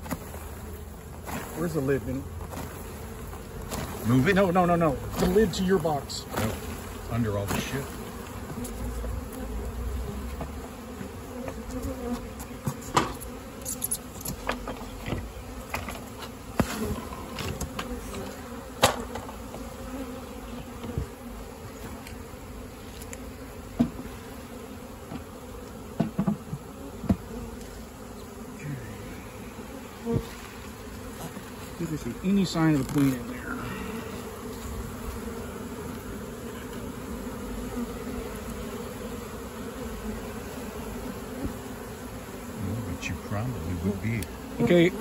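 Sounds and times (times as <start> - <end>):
bees buzzing: 0.0 - 45.0.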